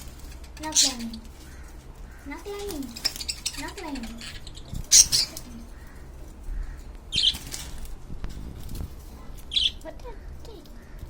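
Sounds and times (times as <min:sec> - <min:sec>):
birds chirping and squawking: 0:00.0 - 0:08.0, 0:08.6 - 0:11.0.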